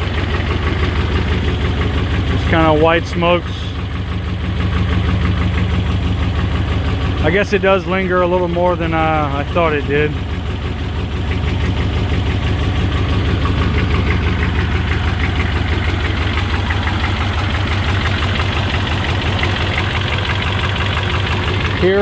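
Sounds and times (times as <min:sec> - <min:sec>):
diesel engine idling rough: 0:00.0 - 0:22.0.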